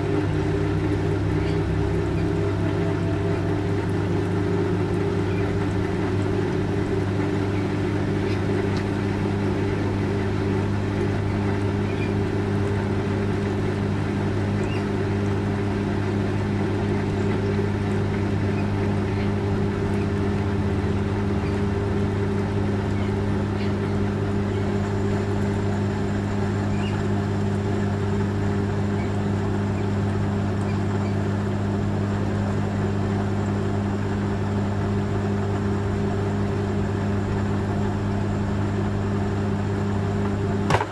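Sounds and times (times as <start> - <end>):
load churning in tub: 0.0 - 33.8
washing machine motor hum: 0.0 - 40.9.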